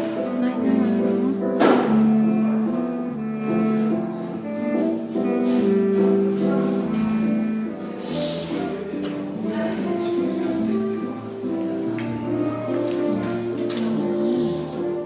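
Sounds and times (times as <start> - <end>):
background guitar music: 0.0 - 15.0.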